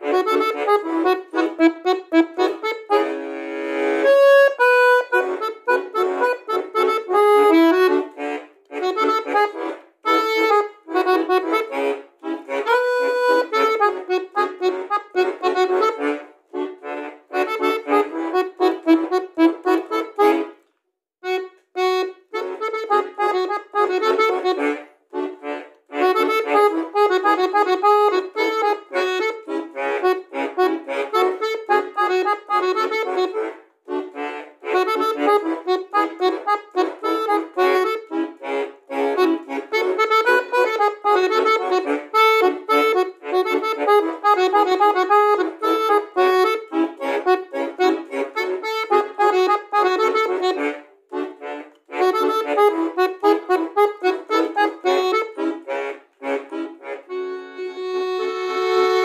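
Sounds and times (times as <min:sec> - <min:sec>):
accordion pop melody: 0:00.0 - 0:59.0.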